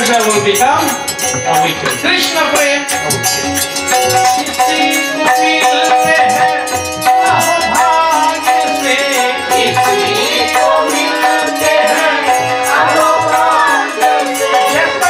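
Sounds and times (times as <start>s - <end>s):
hand percussion beat: 0.0s - 15.0s
harmonium tones: 0.0s - 15.0s
man singing devotional song: 0.0s - 15.0s.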